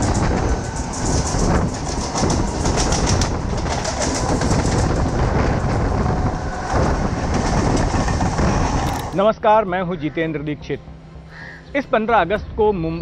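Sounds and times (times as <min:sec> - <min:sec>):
train rumbling along platform: 0:00.0 - 0:13.0.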